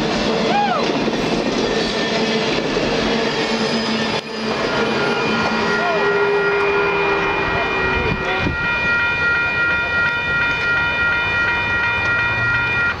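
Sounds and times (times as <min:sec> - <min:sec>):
train cars rumbling on track: 0:00.0 - 0:13.0
railroad crossing bell ringing: 0:01.2 - 0:13.0.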